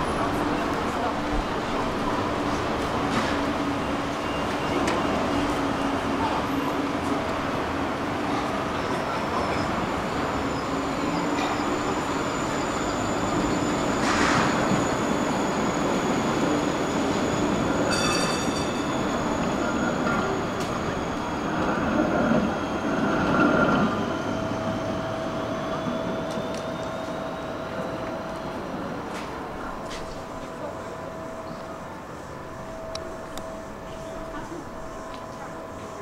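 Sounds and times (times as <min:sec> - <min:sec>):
tram wheels squealing on rails: 0:00.0 - 0:36.0.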